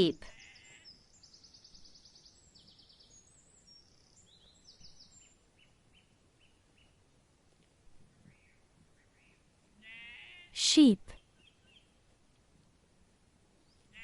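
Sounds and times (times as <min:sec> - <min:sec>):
background hiss: 0:00.0 - 0:14.0
faint birds chirping: 0:00.0 - 0:14.0.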